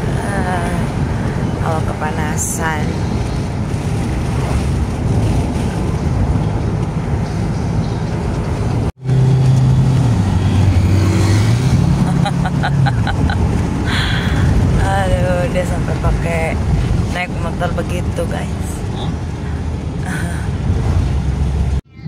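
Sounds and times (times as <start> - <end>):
road noise: 0.0 - 22.0
van engine hum: 0.0 - 22.0.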